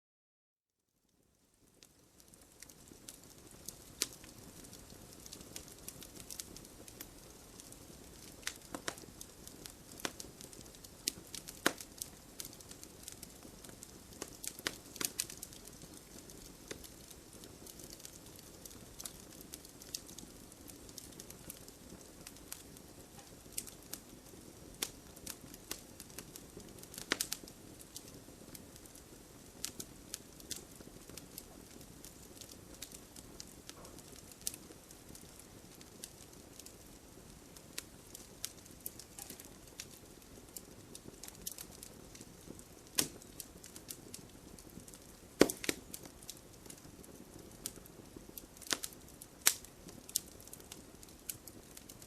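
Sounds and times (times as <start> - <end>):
fire crackling and popping: 1.1 - 52.0
fire hissing: 2.2 - 51.6.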